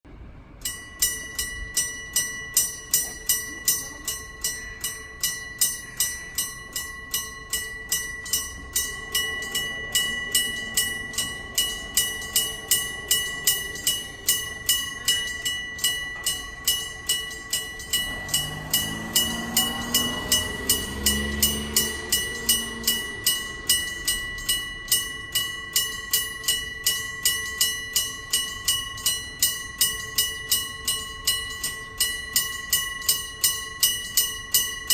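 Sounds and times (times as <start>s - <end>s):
train rumbling past: 0.1s - 34.1s
level crossing bell ringing: 0.6s - 34.9s.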